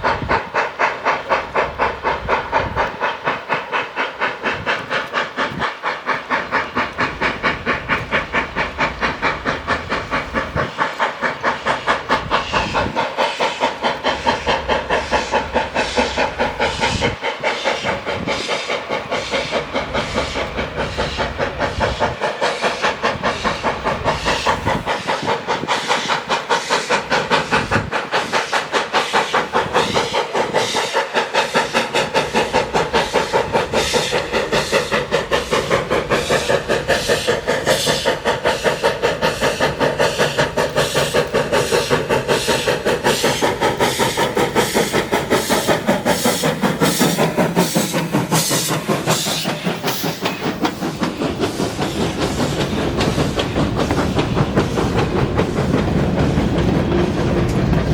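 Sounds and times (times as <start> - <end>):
steam hissing: 0.0 - 57.9
steam locomotive exhaust beat: 0.0 - 57.9.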